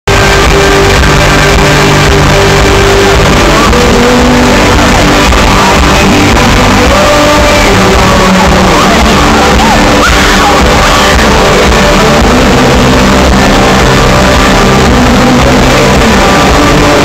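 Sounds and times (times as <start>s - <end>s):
distorted live rock band: 0.0s - 17.0s
crowd singing and shouting: 0.1s - 17.0s.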